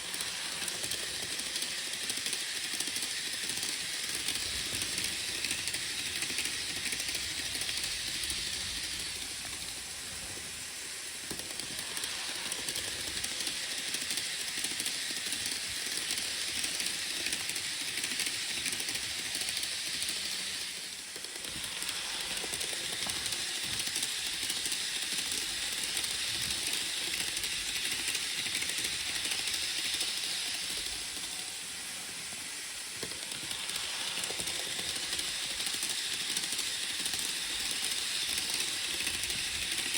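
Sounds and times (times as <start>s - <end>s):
model train wheels rattling on track: 0.0s - 39.9s.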